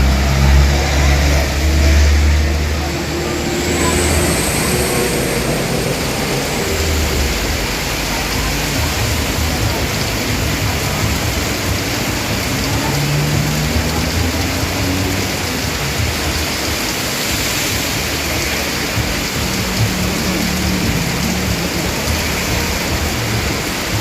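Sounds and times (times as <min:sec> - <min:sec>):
heavy rain pouring: 0:00.0 - 0:24.0
low rumble: 0:00.0 - 0:24.0.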